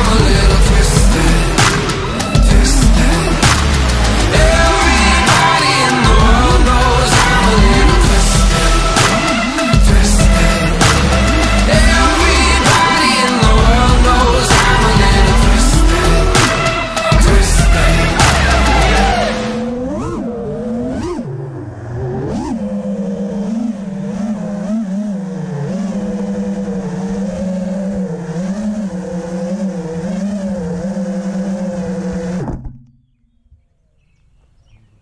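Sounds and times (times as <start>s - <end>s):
drone motors whining: 0.0s - 33.6s.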